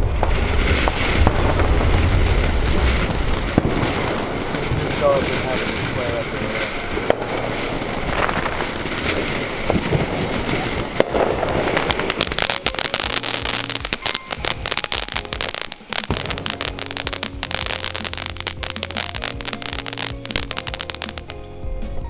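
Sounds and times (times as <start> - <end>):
rumbling haze: 0.0 - 21.3
fireworks bangs: 0.0 - 21.4
fireworks crackling pops: 0.0 - 22.0.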